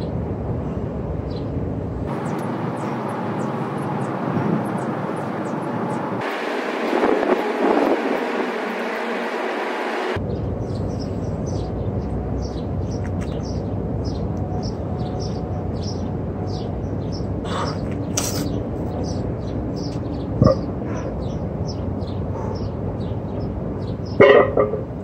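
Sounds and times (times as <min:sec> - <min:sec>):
low background rumble: 0:00.0 - 0:25.0
bird chirping: 0:02.1 - 0:24.3.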